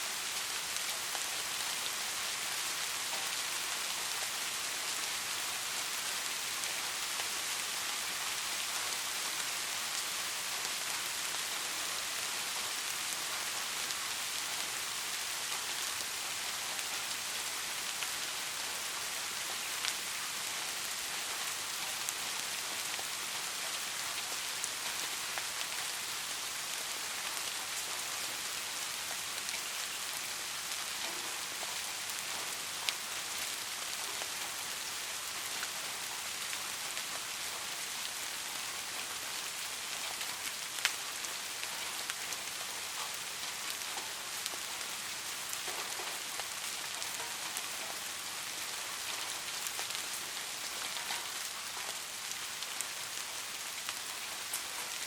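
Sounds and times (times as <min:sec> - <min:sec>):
soft rainfall hiss: 0:00.0 - 0:55.0.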